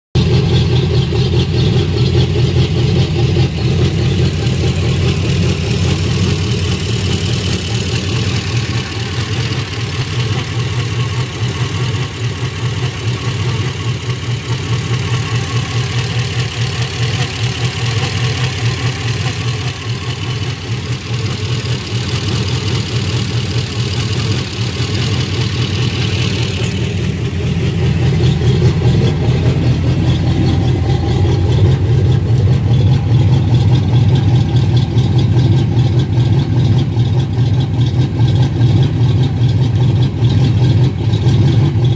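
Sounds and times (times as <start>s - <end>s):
engine idling: 0.2s - 41.9s.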